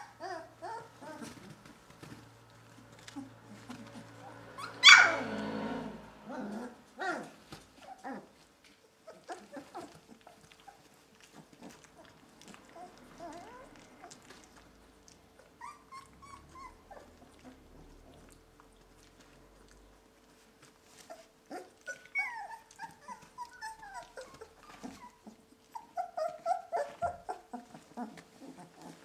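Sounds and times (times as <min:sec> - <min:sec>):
puppies whimpering and squeaking: 0:00.0 - 0:19.4, 0:20.2 - 0:29.0.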